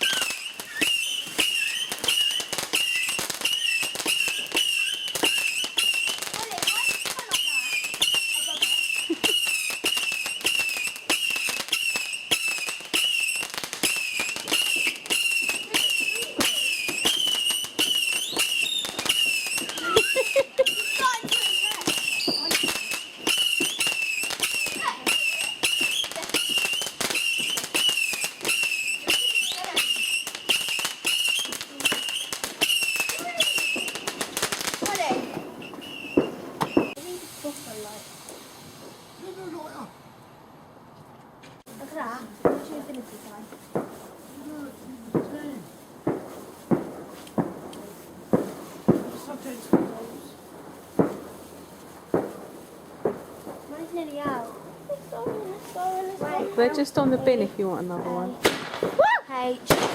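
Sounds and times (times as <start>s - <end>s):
firework whistling: 0.0s - 40.1s, 41.7s - 59.9s
firework crackling: 0.0s - 40.4s, 41.6s - 59.9s.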